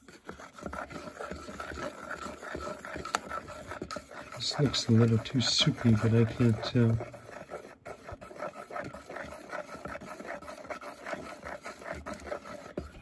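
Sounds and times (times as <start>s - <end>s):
spatula scraping ceramic bowl: 0.0s - 13.0s.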